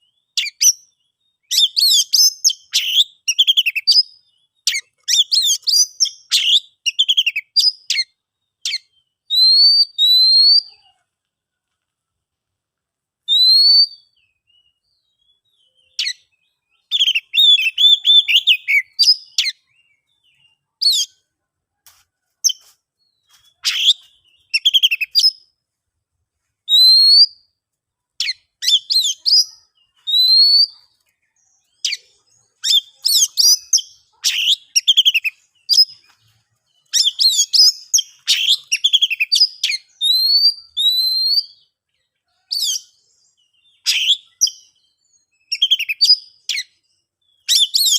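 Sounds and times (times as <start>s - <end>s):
bird singing whistles and trills: 0.0s - 10.8s, 13.3s - 21.2s, 22.4s - 25.5s, 26.6s - 27.6s, 28.2s - 47.9s.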